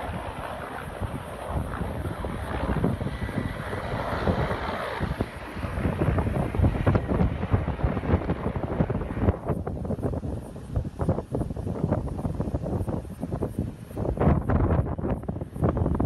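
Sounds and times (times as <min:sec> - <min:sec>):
steady rushing noise: 0:00.0 - 0:16.0
wind buffeting microphone: 0:00.0 - 0:16.0.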